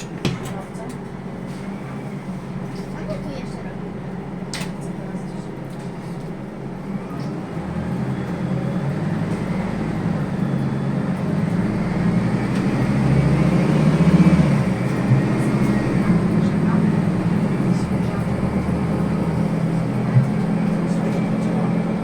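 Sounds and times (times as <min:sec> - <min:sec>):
bus engine accelerating: 0:00.0 - 0:22.0.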